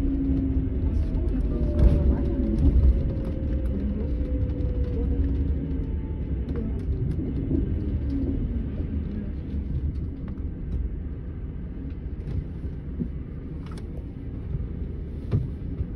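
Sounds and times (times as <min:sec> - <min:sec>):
diesel engine rumble: 0:00.0 - 0:15.9.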